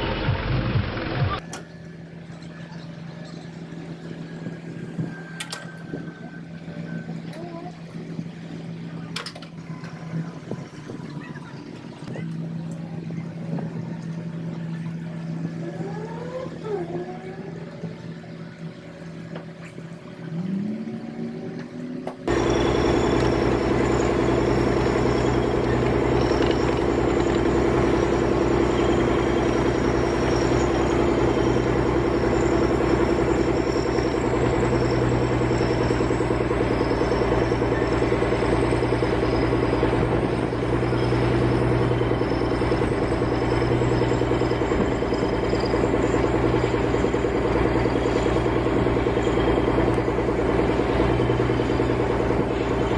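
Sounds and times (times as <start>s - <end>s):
heavy machine engine running: 0.0s - 52.9s
faint high whine: 1.4s - 52.9s.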